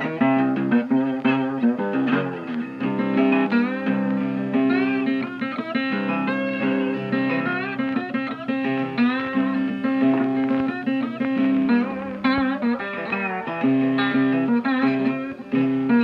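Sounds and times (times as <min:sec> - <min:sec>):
sliding guitar notes: 0:00.0 - 0:16.0.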